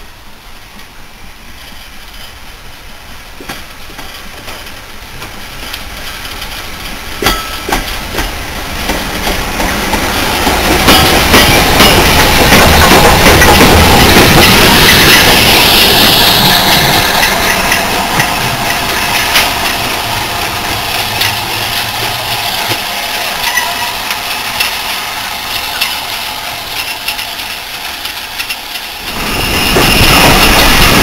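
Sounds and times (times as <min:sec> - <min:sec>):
rolling rail noise: 0:00.0 - 0:31.0
steam hissing: 0:01.4 - 0:31.0
wheels clicking over rail joints: 0:01.6 - 0:15.5, 0:16.8 - 0:31.0.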